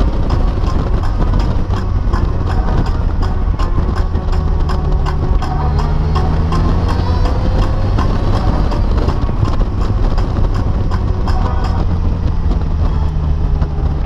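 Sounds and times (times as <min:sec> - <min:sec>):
road noise: 0:00.0 - 0:14.0
vehicle engine running: 0:00.0 - 0:14.0
wind noise: 0:00.0 - 0:14.0.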